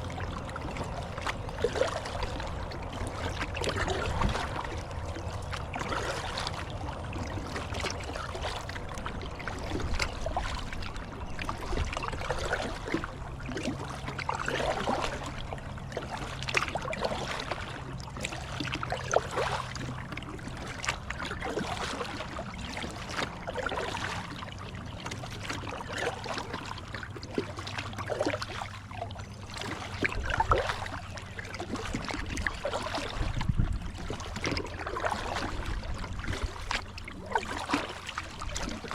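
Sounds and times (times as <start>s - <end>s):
paddle splashing in water: 0.0s - 38.9s.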